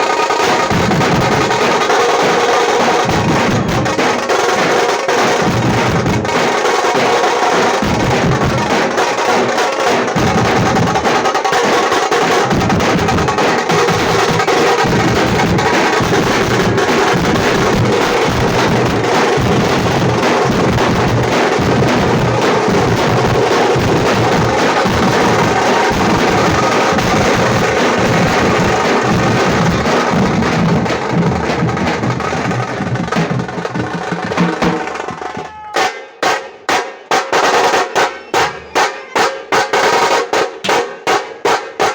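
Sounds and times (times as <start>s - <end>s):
frame drum beaten with sticks: 0.0s - 41.9s.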